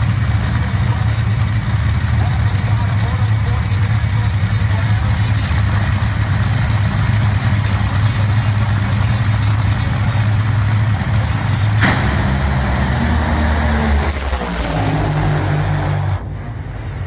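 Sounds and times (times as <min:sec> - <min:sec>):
racing engine low drone: 0:00.0 - 0:17.0.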